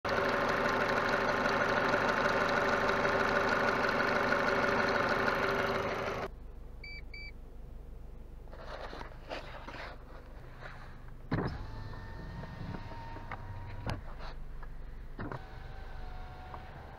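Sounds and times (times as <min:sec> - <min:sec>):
car engine running: 0:00.1 - 0:06.8, 0:07.4 - 0:16.9.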